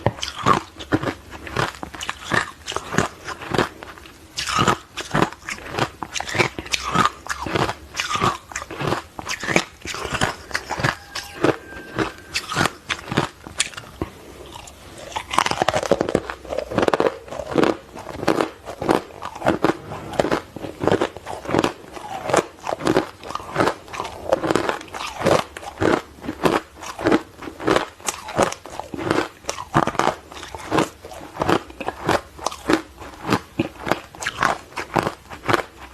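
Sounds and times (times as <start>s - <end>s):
ice crunching being chewed: 0.0s - 35.9s.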